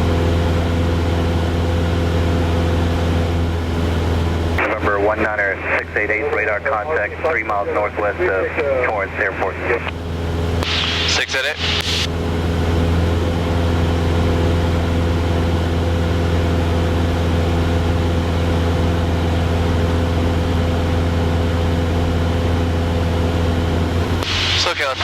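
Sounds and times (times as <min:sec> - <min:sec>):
airplane engine drone from cabin: 0:00.0 - 0:25.0.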